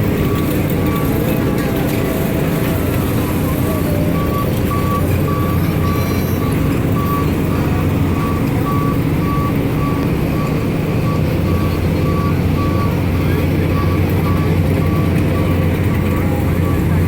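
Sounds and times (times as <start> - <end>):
engine rumbling: 0.0 - 17.0
high electronic warning beeps: 0.0 - 17.0.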